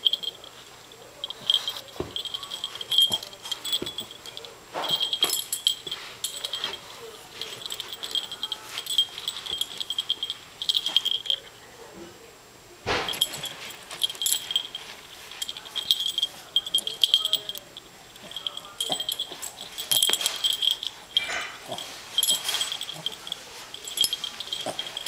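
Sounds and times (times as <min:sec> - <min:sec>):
dog collar tags jingling: 0:00.0 - 0:11.4, 0:13.1 - 0:25.0.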